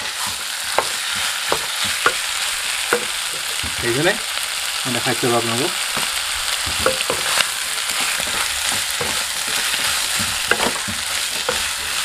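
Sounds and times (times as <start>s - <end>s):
spatula scraping and tapping pan: 0.0s - 4.0s, 5.9s - 12.0s
meat sizzling in oil: 0.0s - 12.0s.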